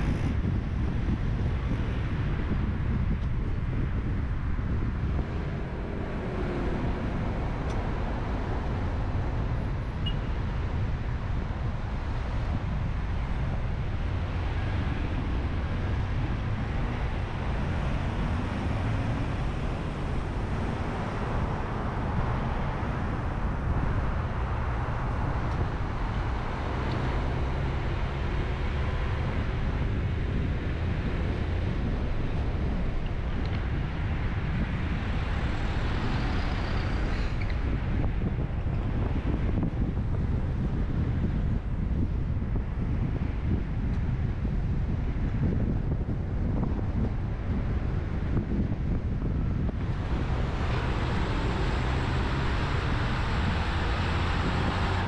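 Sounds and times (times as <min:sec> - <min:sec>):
tyre and engine rumble: 0:00.0 - 0:55.0.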